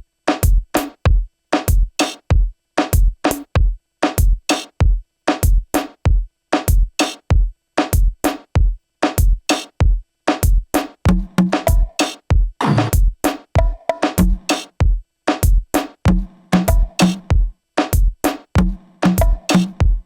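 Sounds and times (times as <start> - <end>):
drum loop kick and snare: 0.3 - 20.0.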